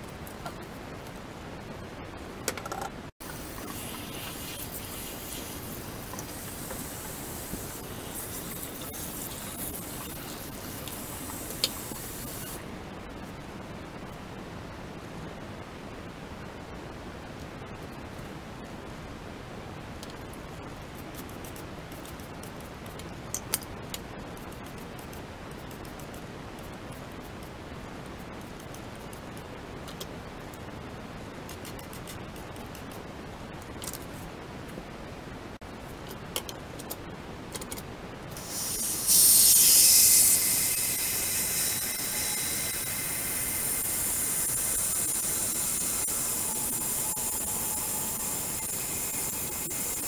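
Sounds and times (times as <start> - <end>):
steady hiss: 3.2 - 50.0.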